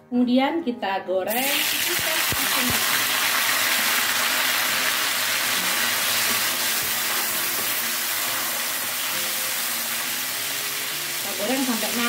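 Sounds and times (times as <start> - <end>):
fish sizzling in hot oil: 1.3 - 12.0.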